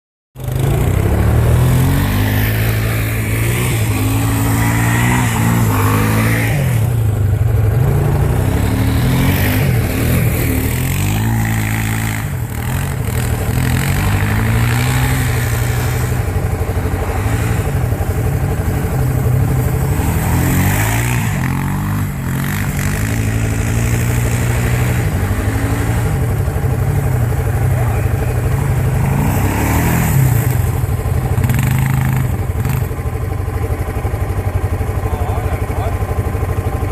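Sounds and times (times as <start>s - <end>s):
small engine revving: 0.4s - 33.0s.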